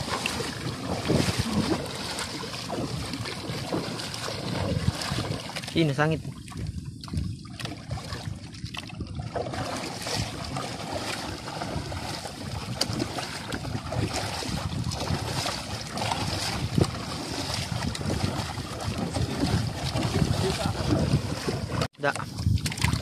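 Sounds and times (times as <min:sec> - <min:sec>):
water splashing around canoe: 0:00.0 - 0:23.0
wind on microphone: 0:00.0 - 0:23.0.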